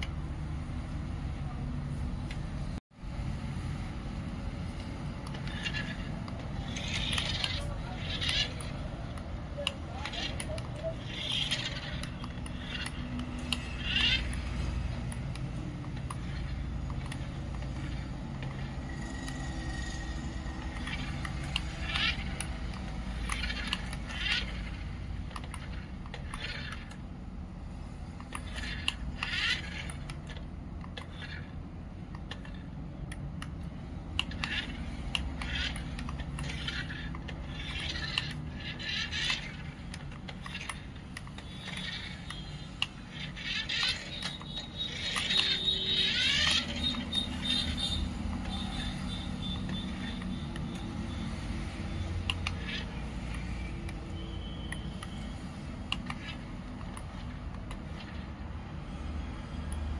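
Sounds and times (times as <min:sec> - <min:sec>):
toy truck motor humming: 0:03.1 - 0:59.9.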